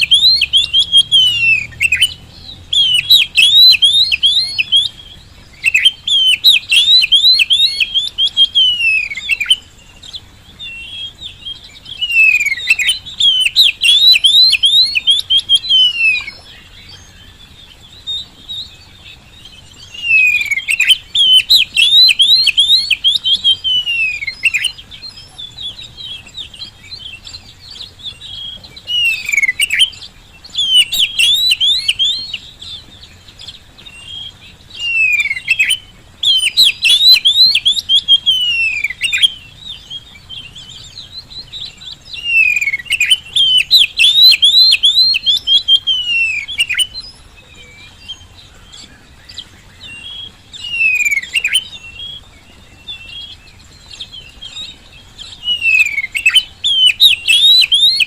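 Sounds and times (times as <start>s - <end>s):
bird singing rapid chirps: 0.0s - 58.0s.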